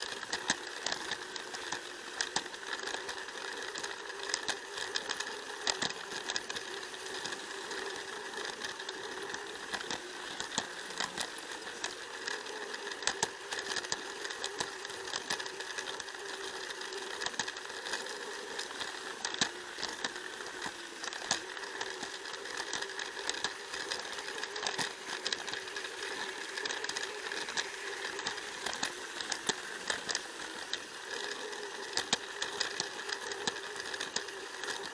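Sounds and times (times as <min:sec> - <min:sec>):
toy train motor whirring: 0:00.0 - 0:34.9
toy train wheels clicking on track: 0:00.0 - 0:34.9.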